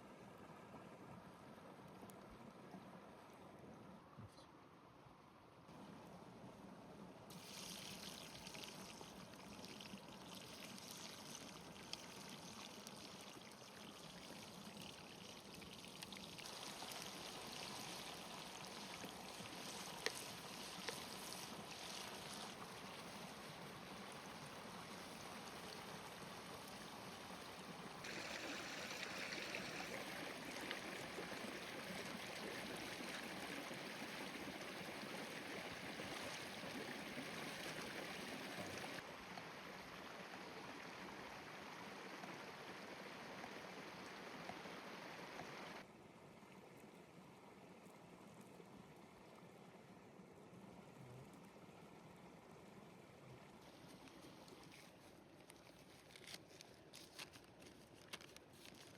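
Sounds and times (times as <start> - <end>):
steady water noise: 0.0 - 58.9.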